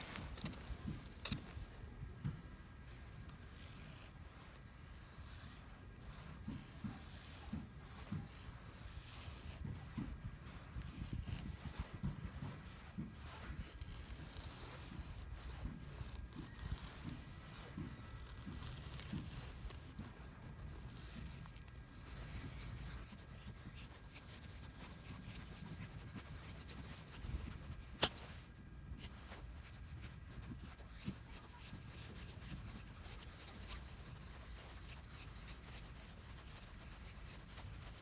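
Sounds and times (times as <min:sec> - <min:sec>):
scraping and rubbing: 0:00.0 - 0:01.8, 0:02.6 - 0:38.0.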